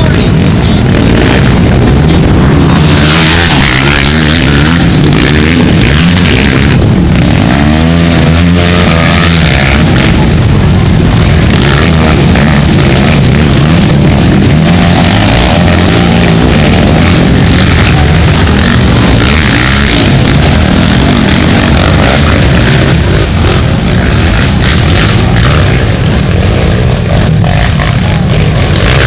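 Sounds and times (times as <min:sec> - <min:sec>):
racing quad engines revving: 0:00.0 - 0:29.0.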